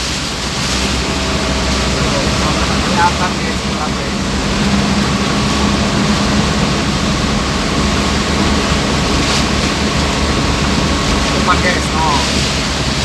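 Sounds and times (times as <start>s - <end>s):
engine hum: 0.0s - 13.0s
heavy rain on vehicle: 0.0s - 13.0s
road noise: 0.0s - 13.0s.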